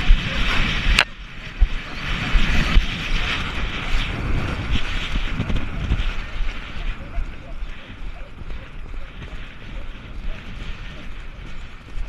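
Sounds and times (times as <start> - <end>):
low thumps of galloping: 0.0 - 12.0
wind buffeting microphone: 0.0 - 12.0.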